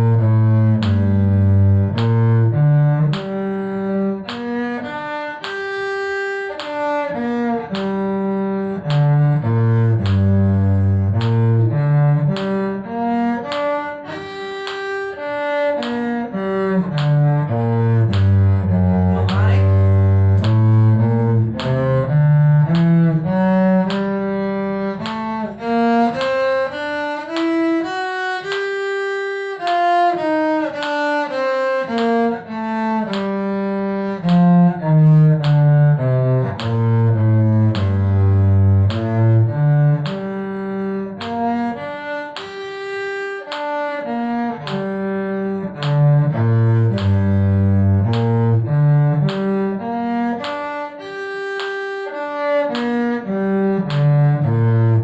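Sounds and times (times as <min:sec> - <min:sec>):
cello bowing a scale: 0:00.0 - 0:55.0.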